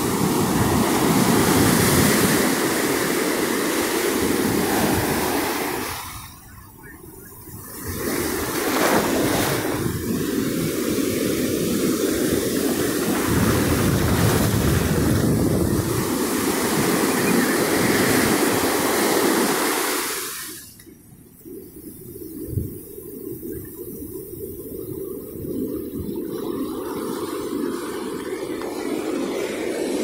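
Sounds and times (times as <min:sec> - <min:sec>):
ocean waves breaking: 0:00.0 - 0:20.8, 0:26.0 - 0:30.0
wind buffeting microphone: 0:00.0 - 0:30.0.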